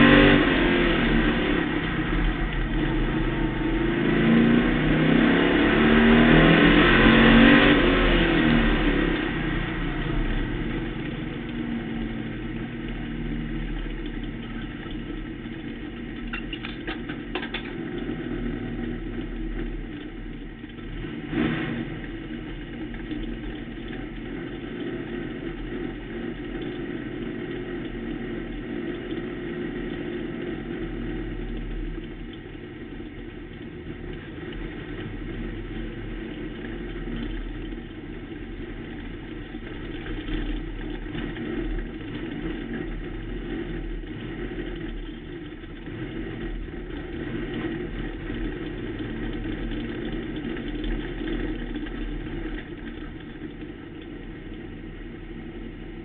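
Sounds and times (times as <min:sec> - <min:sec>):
race car engine running: 0:00.0 - 0:56.0.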